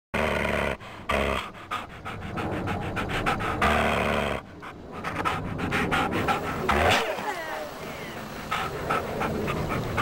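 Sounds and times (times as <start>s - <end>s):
animal panting: 0.2s - 10.0s.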